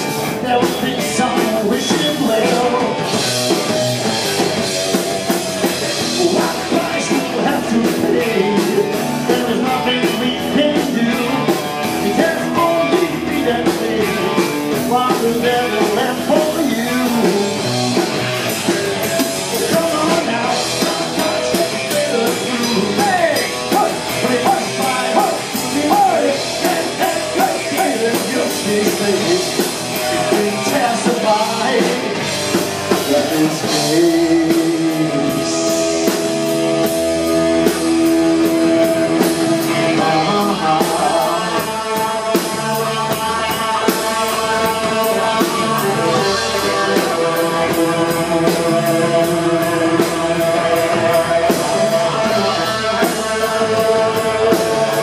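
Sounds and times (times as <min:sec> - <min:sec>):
man singing: 0:00.0 - 0:03.8, 0:04.9 - 0:55.0
drum kit beat: 0:00.0 - 0:55.0
electric guitars: 0:00.0 - 0:55.0.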